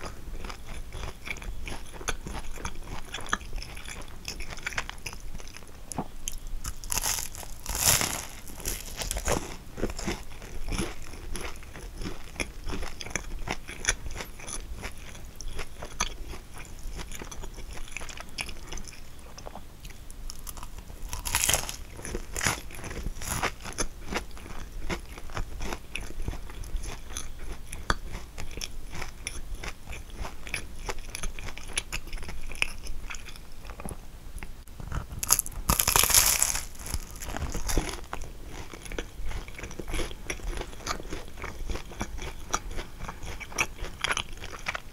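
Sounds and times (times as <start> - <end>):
crunching crisp pastry: 0.0 - 34.0, 34.8 - 44.9.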